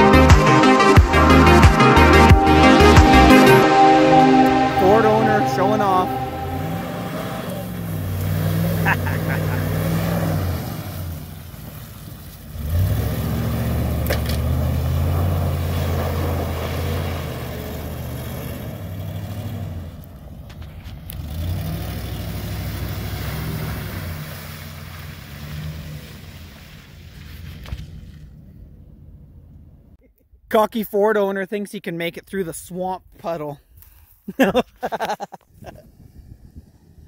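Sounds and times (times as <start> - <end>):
truck engine revving: 0.0 - 29.9.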